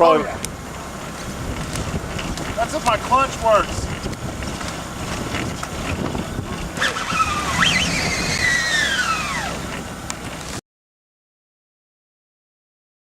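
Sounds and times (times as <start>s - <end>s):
car engine and wheels rumbling: 0.0s - 10.6s
high whine: 0.0s - 10.6s.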